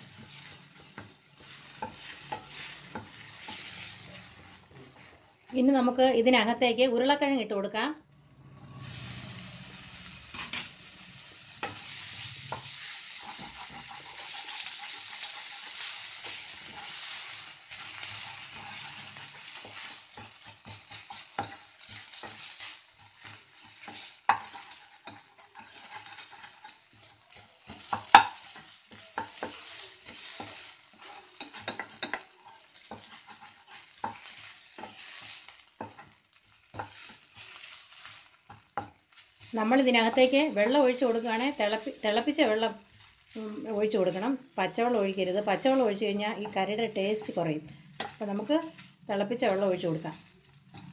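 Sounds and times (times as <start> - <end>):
spatula scraping and clicking on pan: 0.0 - 5.6, 10.3 - 10.8, 11.5 - 43.3, 45.4 - 49.0
potatoes sizzling in a pan: 0.0 - 6.6, 8.7 - 50.9.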